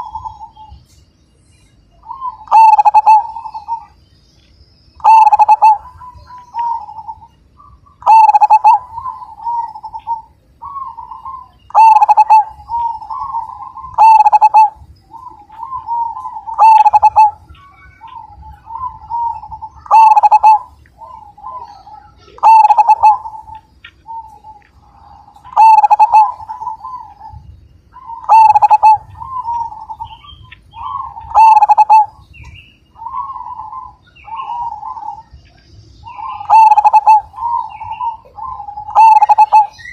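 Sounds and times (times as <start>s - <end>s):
dove cooing: 0.0s - 0.8s, 2.0s - 4.0s, 5.0s - 39.9s.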